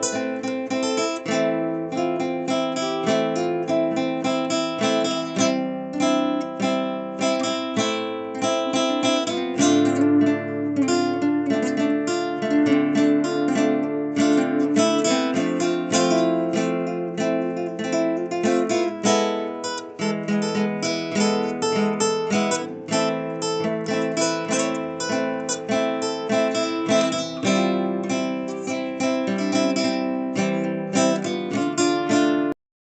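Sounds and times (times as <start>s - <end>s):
acoustic guitar strumming: 0.0s - 32.6s.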